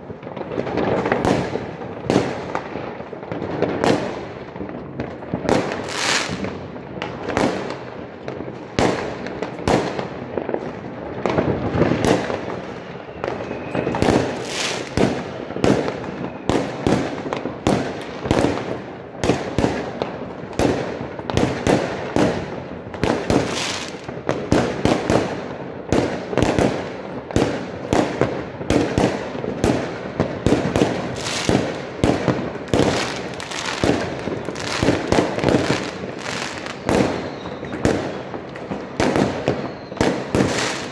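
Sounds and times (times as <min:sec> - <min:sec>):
fireworks and firecrackers banging: 0:00.0 - 0:40.9.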